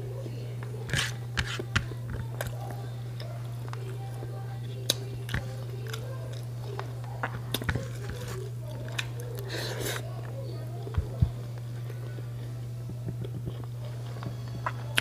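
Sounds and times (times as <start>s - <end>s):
steady low hum: 0.0s - 15.0s
person chewing food: 0.7s - 15.0s.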